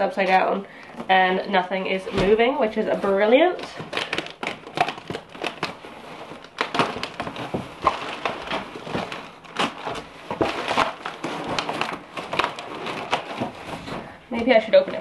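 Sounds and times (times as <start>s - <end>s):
cardboard crackling and scraping: 1.0s - 15.0s.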